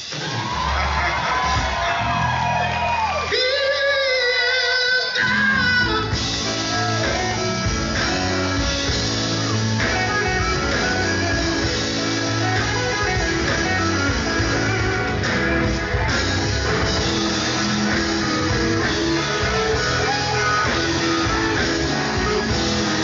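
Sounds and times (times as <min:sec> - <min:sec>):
gospel group performing: 0:00.0 - 0:23.0.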